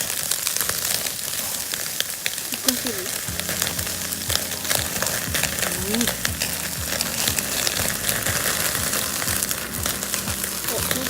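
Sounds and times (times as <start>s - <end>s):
campfire crackling: 0.0s - 11.0s
meat sizzling in a pan: 0.0s - 11.0s.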